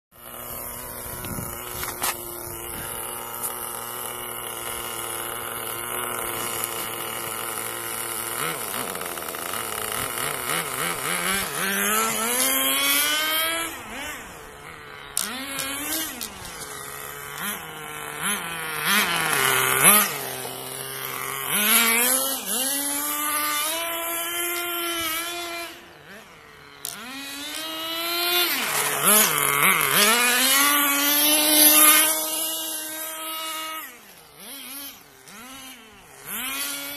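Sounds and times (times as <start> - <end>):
small nitro engine revving: 0.1 - 36.9.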